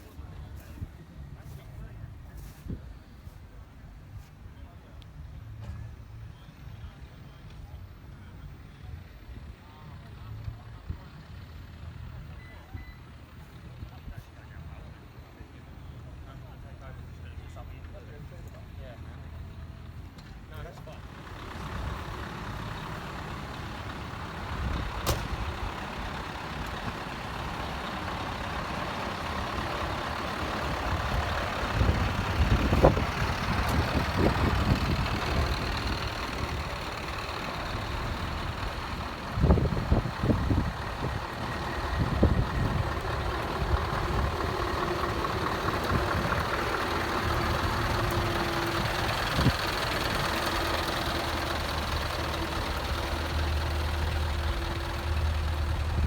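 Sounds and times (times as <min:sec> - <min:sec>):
low engine bursts: 0:00.0 - 0:56.0
truck engines idling: 0:00.0 - 0:56.0.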